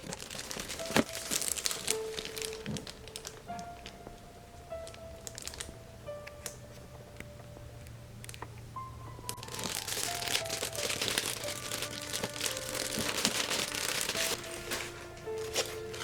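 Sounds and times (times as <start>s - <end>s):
packaging crinkling and rustling: 0.0s - 7.2s, 9.2s - 16.0s
soft background music: 0.0s - 16.0s.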